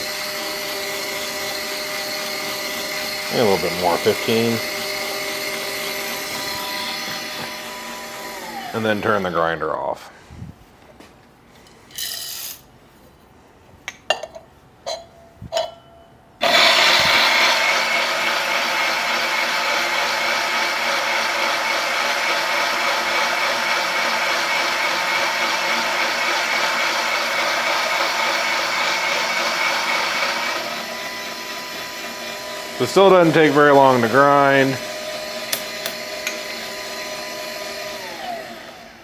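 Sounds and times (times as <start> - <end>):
electric coffee grinder grinding: 0.0 - 9.9, 16.4 - 39.0.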